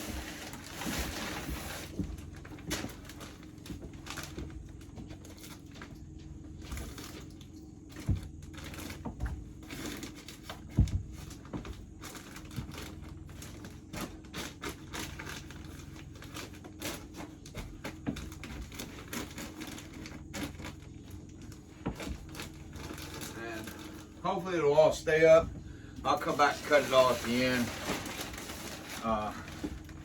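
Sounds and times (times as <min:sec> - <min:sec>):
insulation rustling: 0:00.0 - 0:30.0.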